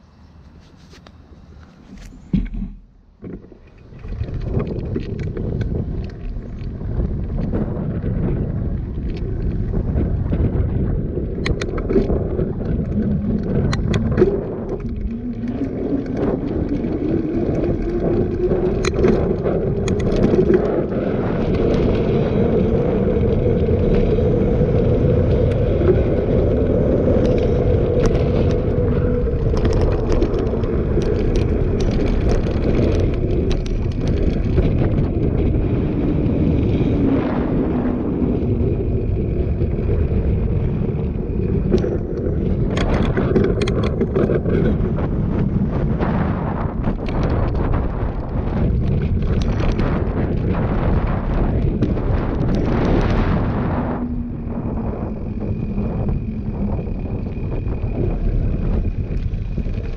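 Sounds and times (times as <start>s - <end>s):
bicycle tyre rolling hum: 0.0s - 59.9s
wind rumble on microphone: 0.0s - 59.9s
bicycle clicks and rattles: 3.2s - 53.6s, 54.5s - 59.9s.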